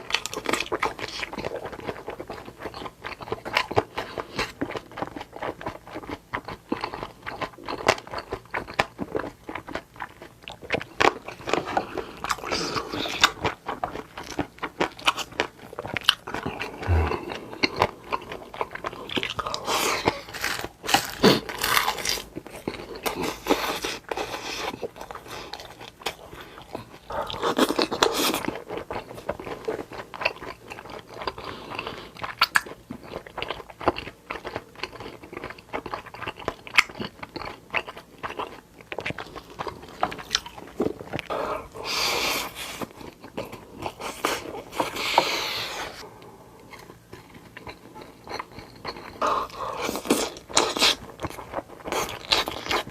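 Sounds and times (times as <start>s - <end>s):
chewing and crunchy bites: 0.0s - 52.9s.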